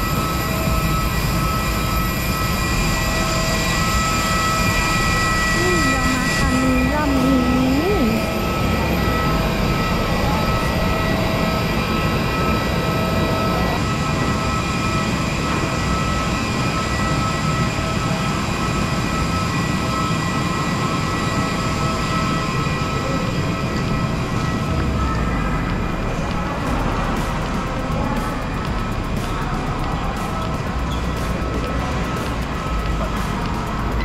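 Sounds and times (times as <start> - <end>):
constant whining tones: 0.0 - 34.0
jet turbine roar: 0.0 - 34.0.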